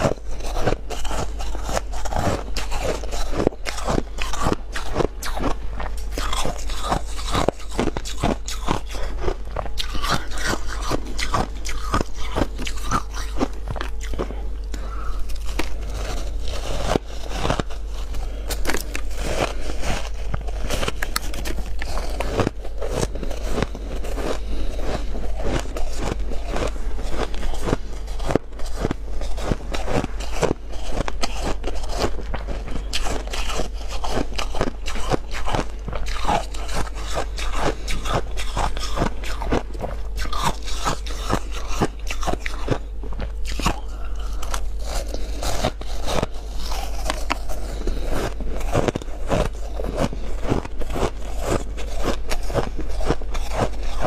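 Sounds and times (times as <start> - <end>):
chewing crunchy ice: 0.0 - 54.0
low hum: 0.0 - 54.0.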